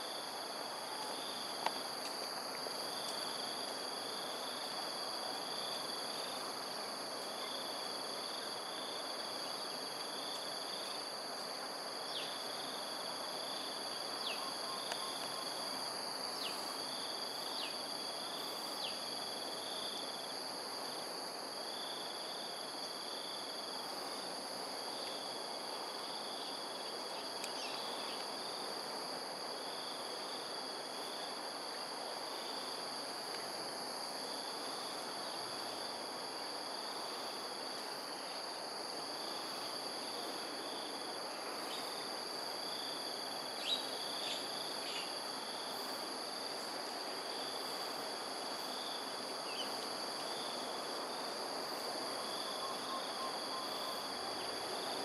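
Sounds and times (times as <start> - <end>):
insects droning: 0.0 - 55.0
pulsing insect trill: 0.0 - 55.0
steady background hiss: 0.0 - 55.0.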